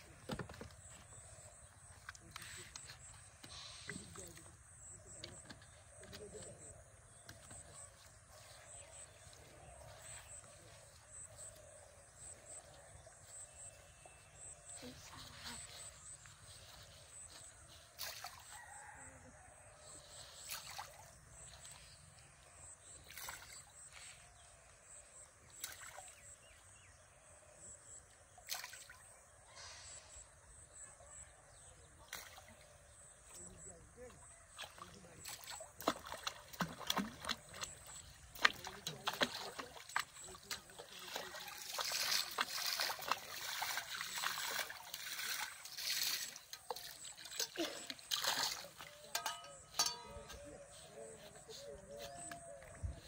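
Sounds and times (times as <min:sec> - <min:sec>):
water splashing and trickling: 0:00.0 - 0:06.7, 0:07.3 - 0:26.8, 0:28.4 - 0:29.2, 0:31.9 - 0:53.0.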